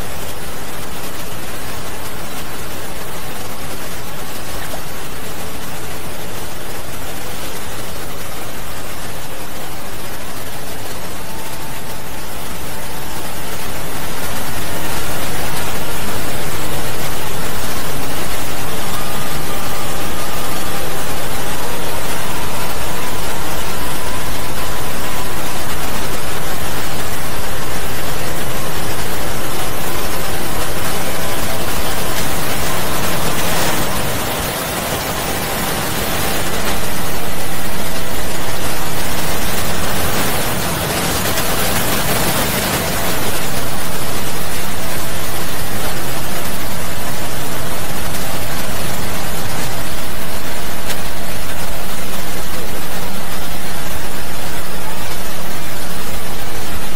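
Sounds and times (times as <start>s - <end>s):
dense wash of noise: 0.0s - 56.9s
faint steady tones: 0.0s - 56.9s.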